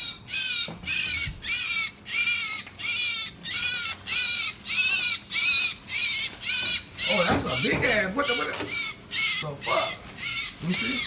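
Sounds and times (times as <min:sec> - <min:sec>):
small bird harsh high calls: 0:00.0 - 0:11.0.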